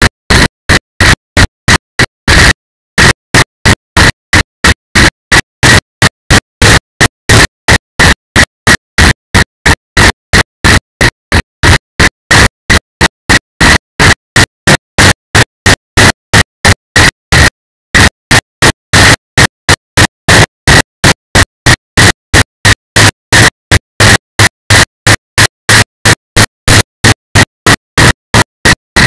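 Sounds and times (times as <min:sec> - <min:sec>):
harsh bursts of clipped noise: 0:00.0 - 0:29.0.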